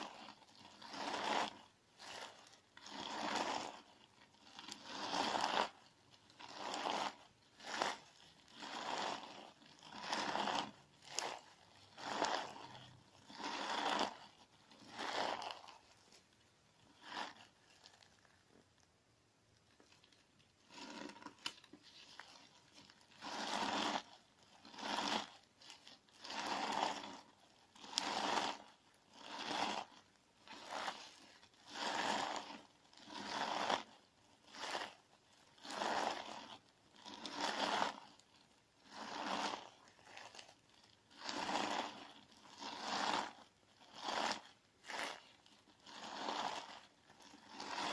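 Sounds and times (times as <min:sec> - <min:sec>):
crunchy slime squelches: 0:00.0 - 0:47.9.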